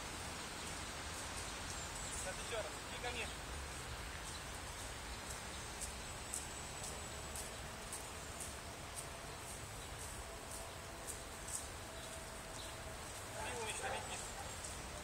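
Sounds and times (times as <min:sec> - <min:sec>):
open-air background noise: 0:00.0 - 0:15.0.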